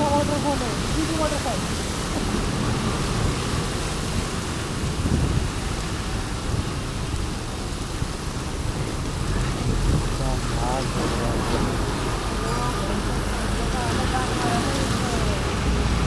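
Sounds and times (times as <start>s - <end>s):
heavy rain hissing: 0.0s - 16.0s
wind buffeting microphone: 0.0s - 16.0s.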